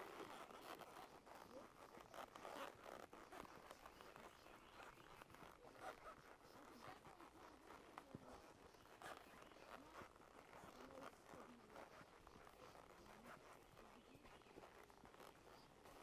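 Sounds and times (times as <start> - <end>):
faint scratchy rustling: 0.0 - 16.0.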